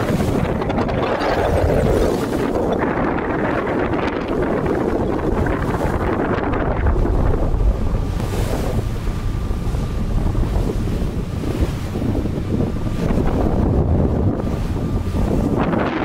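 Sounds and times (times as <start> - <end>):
choppy sea water rushing: 0.0 - 16.0
wind buffeting microphone: 0.0 - 16.0.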